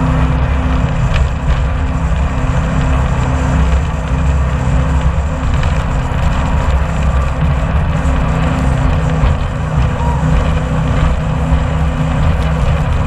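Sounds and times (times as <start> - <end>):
jet boat engine drone: 0.0 - 13.0.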